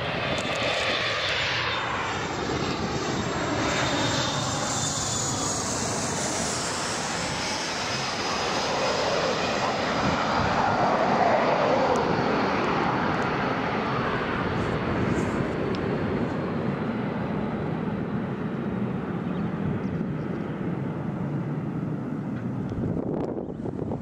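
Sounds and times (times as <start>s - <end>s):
jet airliner engines rumbling: 0.0s - 24.0s.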